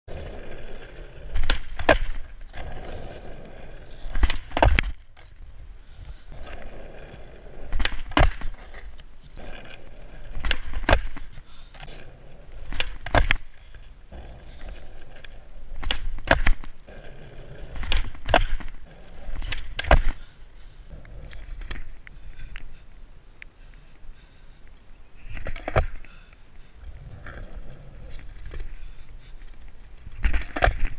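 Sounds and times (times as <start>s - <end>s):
skateboard wheels rolling on asphalt: 0.1s - 22.8s, 25.0s - 30.9s.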